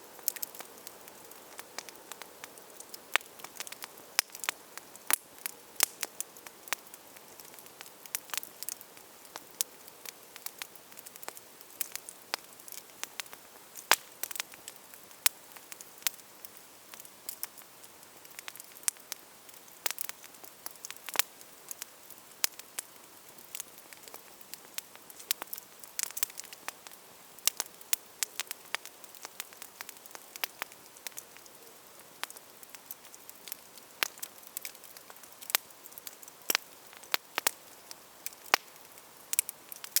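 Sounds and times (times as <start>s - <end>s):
campfire crackling: 0.0s - 40.0s
soft steady hiss: 0.0s - 40.0s.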